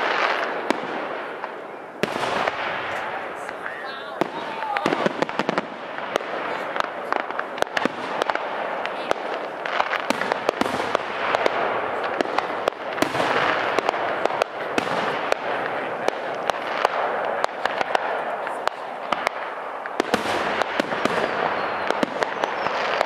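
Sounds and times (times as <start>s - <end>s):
firework bangs and pops: 0.0s - 23.0s
fireworks crackling hiss: 0.0s - 23.0s.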